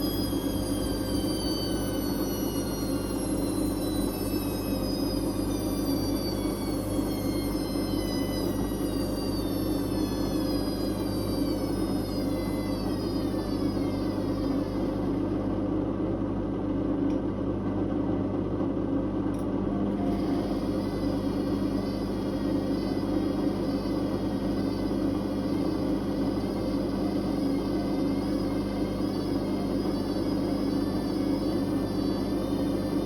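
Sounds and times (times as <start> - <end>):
faint wavering whine: 0.0 - 18.5, 19.3 - 33.0
washing machine spinning: 0.0 - 33.0.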